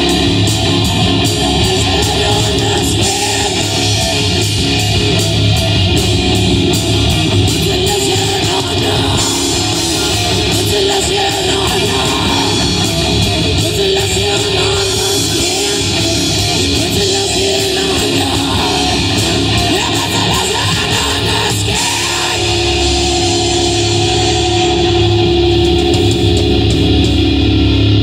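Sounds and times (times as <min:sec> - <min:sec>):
live rock band playing: 0:00.0 - 0:28.0
long held guitar notes: 0:00.0 - 0:28.0.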